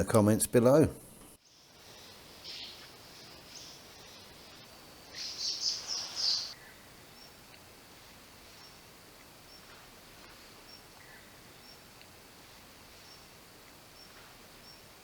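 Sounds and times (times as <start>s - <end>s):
faint natural ambience: 0.0s - 15.0s.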